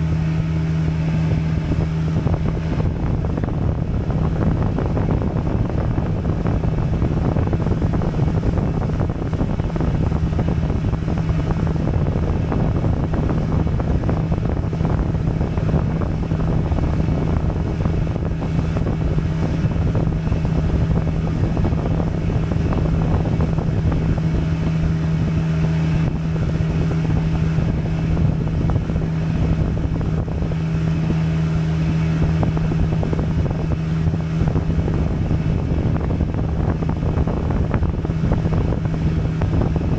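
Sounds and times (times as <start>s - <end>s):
motorboat engine humming: 0.0s - 39.9s
wind buffeting microphone: 0.0s - 39.9s.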